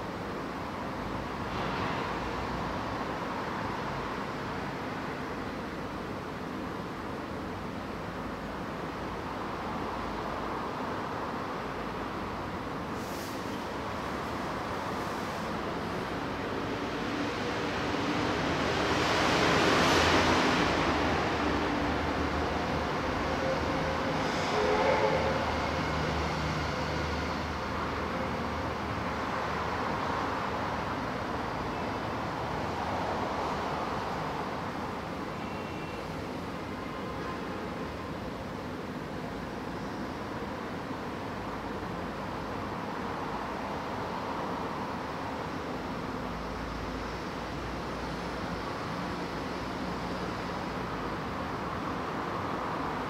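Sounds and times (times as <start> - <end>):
road traffic rushing: 0.0 - 53.0.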